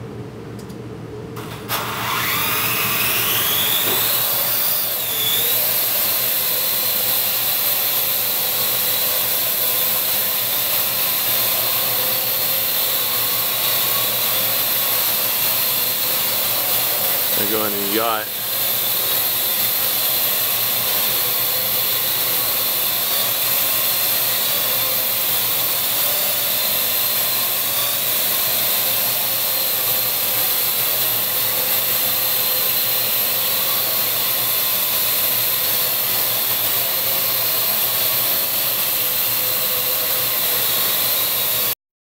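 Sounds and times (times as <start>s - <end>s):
drone rotors whirring: 1.7s - 41.7s.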